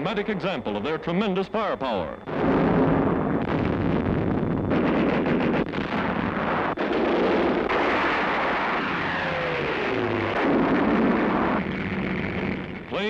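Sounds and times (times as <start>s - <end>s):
shells exploding: 2.3s - 12.8s
rapid cracks: 2.3s - 13.0s.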